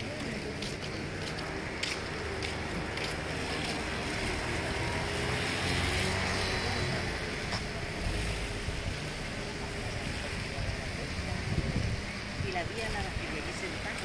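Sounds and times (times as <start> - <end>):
hum of town traffic: 0.0 - 14.0
car passing: 0.4 - 14.0.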